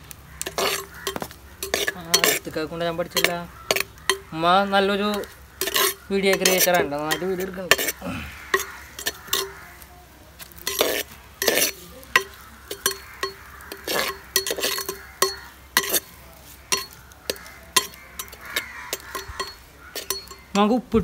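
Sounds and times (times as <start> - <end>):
onions sizzling: 0.0 - 21.0
metal spoon scraping clay pot: 0.4 - 9.8, 10.4 - 20.7.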